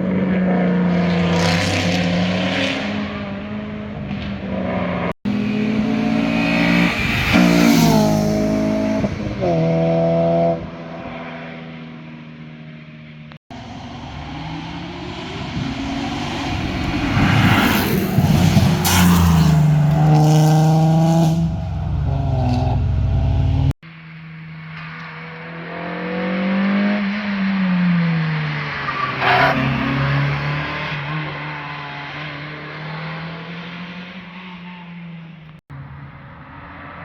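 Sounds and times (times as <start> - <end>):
sports cars passing at speed: 0.0 - 23.8, 24.7 - 37.0.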